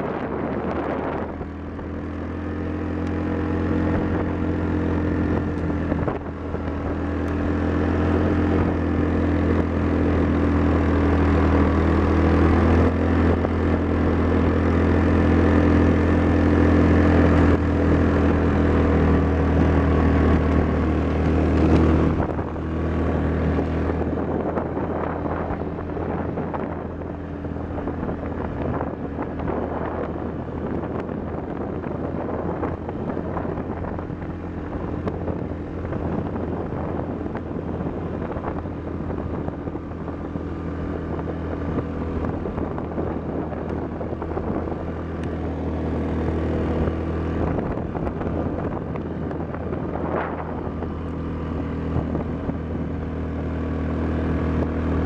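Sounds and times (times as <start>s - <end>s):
atv engine running: 0.0s - 55.0s
wind on microphone: 0.0s - 55.0s.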